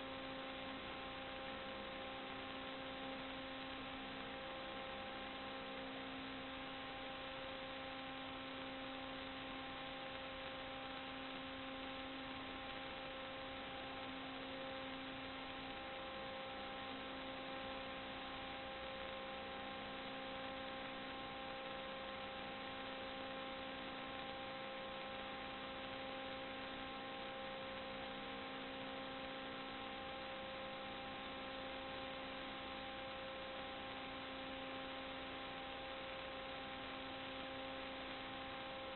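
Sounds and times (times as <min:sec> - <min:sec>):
electrical hum: 0:00.0 - 0:38.9
steady hiss: 0:00.0 - 0:38.9.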